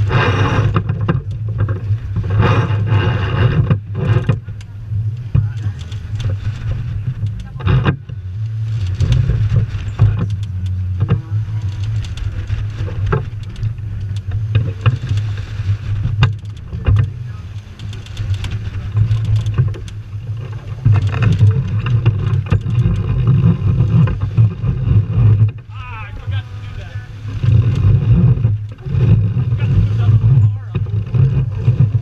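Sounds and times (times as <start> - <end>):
water splashing along hull: 0.0 - 32.0
wind buffeting microphone: 0.0 - 32.0.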